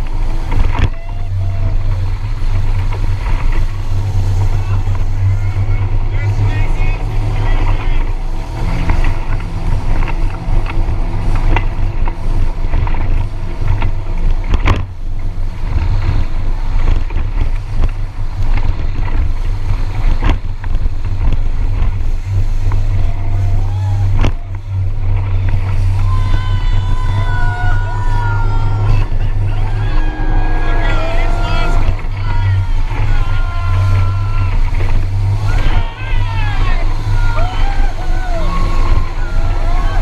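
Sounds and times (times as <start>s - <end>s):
boat motor droning: 0.0s - 40.0s
water splashing around hull: 0.0s - 40.0s.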